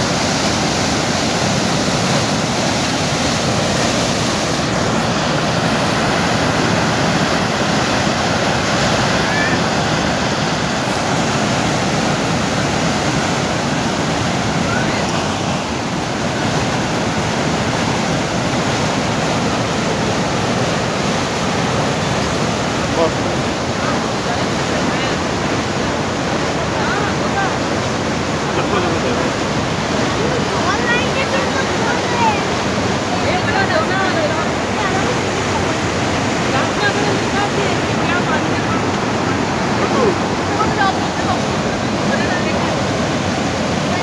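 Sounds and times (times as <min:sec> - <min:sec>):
water gushing over boulders: 0:00.0 - 0:44.0.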